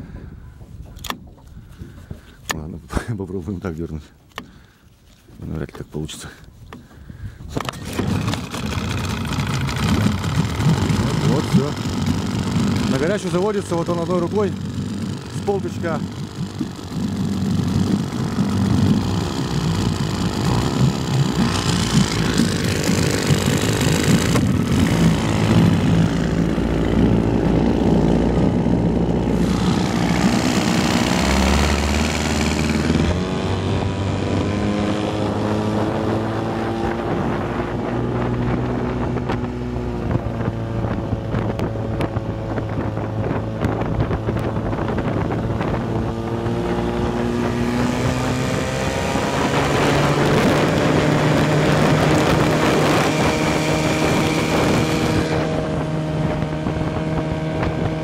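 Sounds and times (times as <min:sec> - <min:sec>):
outboard motor running: 0:00.0 - 0:05.2, 0:06.6 - 0:58.0.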